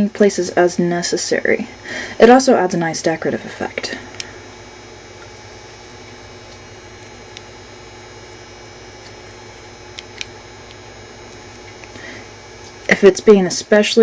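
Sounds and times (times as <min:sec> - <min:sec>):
room tone hum and hiss: 0:00.0 - 0:14.0.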